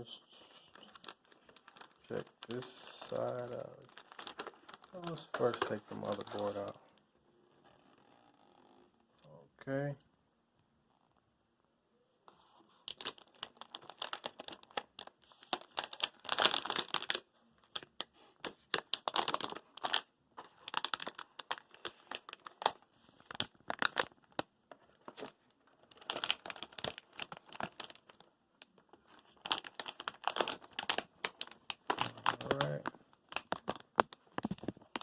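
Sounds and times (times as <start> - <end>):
plastic packaging crinkling: 0.6 - 6.9, 12.7 - 35.0.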